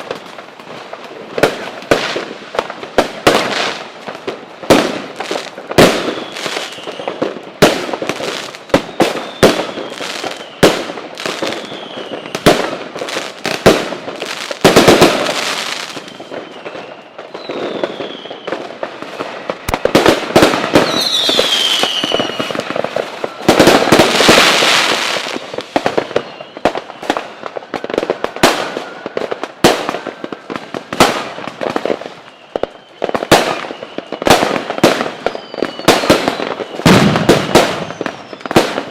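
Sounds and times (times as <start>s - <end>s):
falling firework whistles: 0.0s - 38.9s
fireworks bangs: 0.0s - 38.9s
fireworks crackling: 0.0s - 38.9s.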